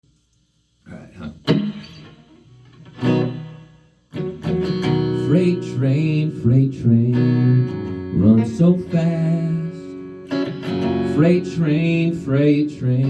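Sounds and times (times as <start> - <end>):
plucked guitar: 1.2 - 13.0.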